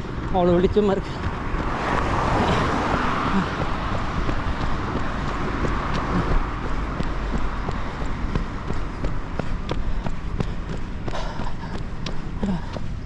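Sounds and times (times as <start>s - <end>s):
low traffic rumble: 0.0s - 13.0s
vehicle passing: 0.0s - 13.0s.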